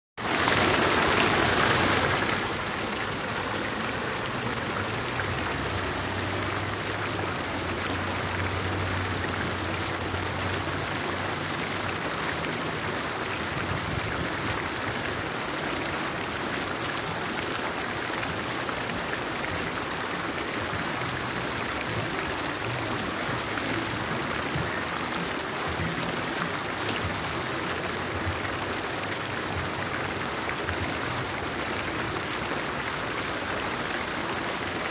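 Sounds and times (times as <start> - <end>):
fountain water splashing: 0.2 - 34.9.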